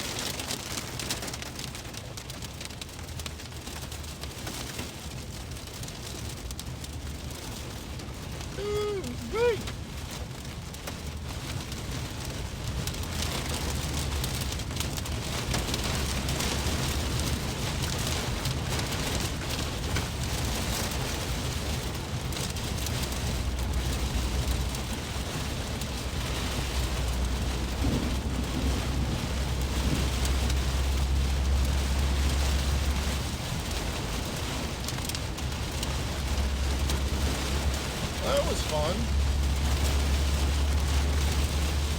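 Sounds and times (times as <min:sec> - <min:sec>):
hail and rain on a car: 0:00.0 - 0:41.9
road rumble: 0:00.0 - 0:41.9.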